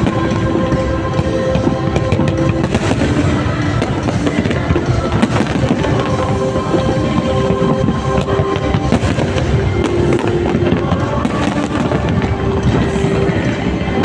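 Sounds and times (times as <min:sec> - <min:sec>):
fireworks banging and crackling: 0:00.0 - 0:14.0
show music with held notes: 0:00.0 - 0:14.0.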